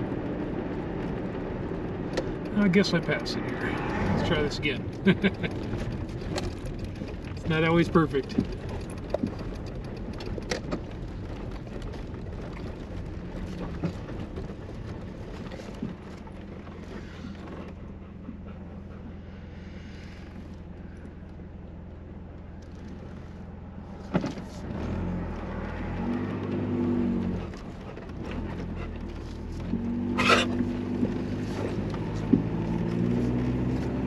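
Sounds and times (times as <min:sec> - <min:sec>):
vehicle engine and road hum: 0:00.0 - 0:34.0.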